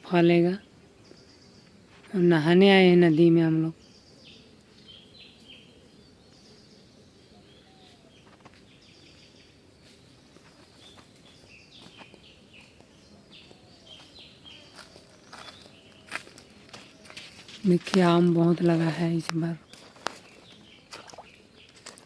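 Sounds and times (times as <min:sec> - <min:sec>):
birds chirping faintly: 0:00.0 - 0:22.0
low outdoor background noise: 0:00.0 - 0:22.0.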